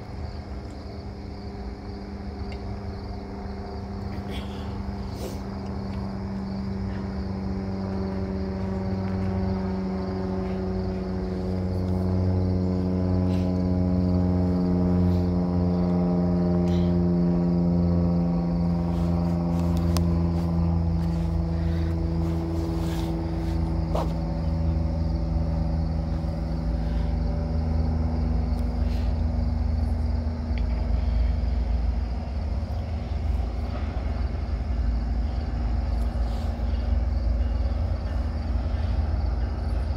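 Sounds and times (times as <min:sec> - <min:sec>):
diesel locomotive engines droning: 0:00.0 - 0:39.9.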